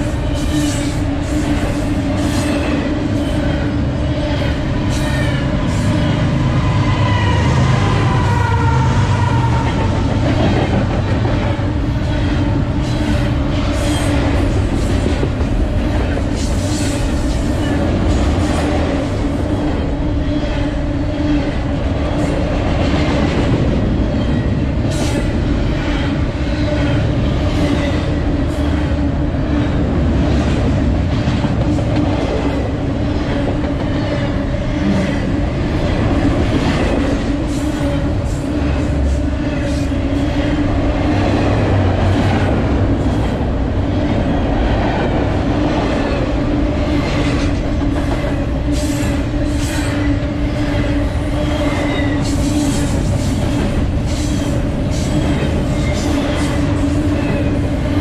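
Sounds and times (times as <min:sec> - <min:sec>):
locomotive drone: 0:00.0 - 0:58.0
train wheels rumbling on rails: 0:00.0 - 0:58.0.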